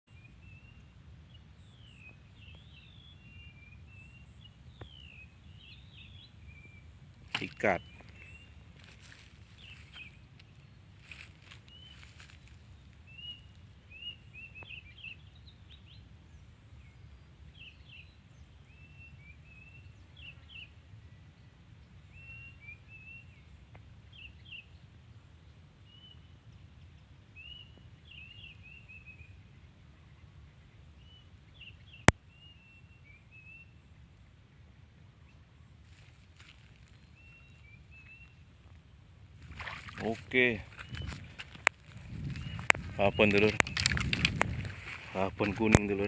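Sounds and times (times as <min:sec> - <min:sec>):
small birds chirping: 0:00.1 - 0:34.1, 0:35.2 - 0:46.0.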